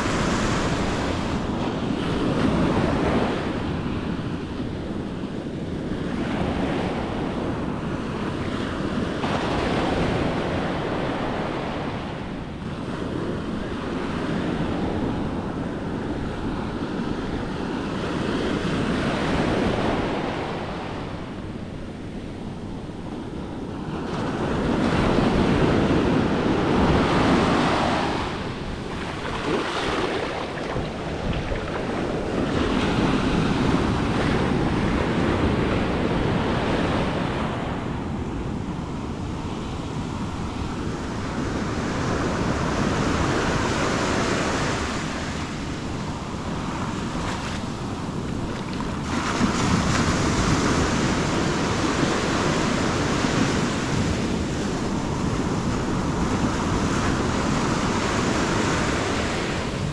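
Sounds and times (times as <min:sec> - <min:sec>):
waves washing up beach: 0:00.0 - 0:22.7, 0:23.3 - 0:59.9.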